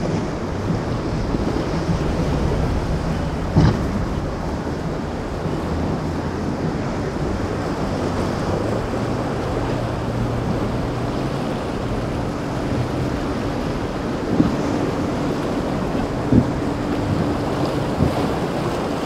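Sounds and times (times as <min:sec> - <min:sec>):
boat engine droning: 0:00.0 - 0:19.0
waves rushing: 0:00.0 - 0:19.0
wind buffeting microphone: 0:00.0 - 0:19.0.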